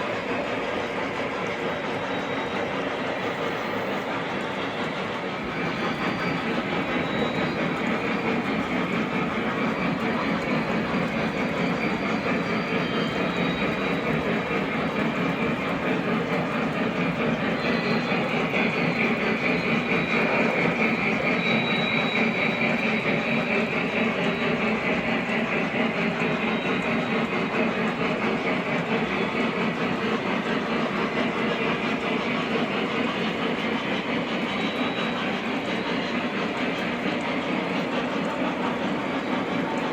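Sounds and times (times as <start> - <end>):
model train wheels rolling on track: 0.0 - 39.9.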